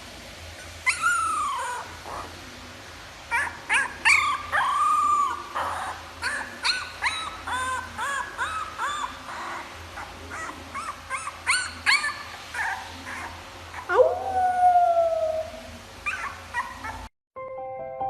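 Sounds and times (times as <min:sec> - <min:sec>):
dog whining and yipping: 0:00.6 - 0:02.3, 0:03.3 - 0:17.1
dog howling: 0:00.9 - 0:02.3, 0:03.3 - 0:17.1.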